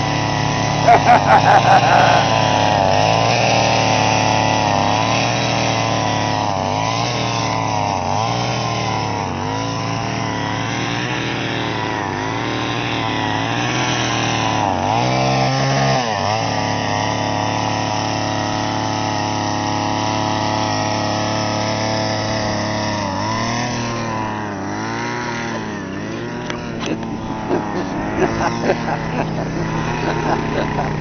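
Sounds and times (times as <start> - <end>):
small petrol engine running: 0.0 - 31.0.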